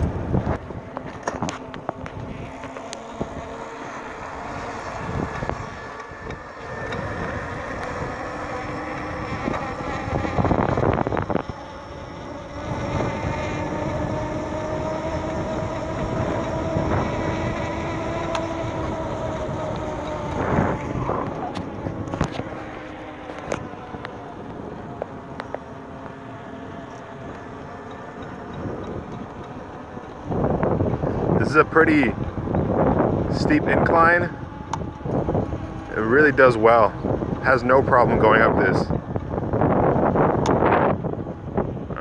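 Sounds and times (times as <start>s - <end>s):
electric motor whining: 0.0s - 42.0s
wind gusts on microphone: 0.0s - 42.0s.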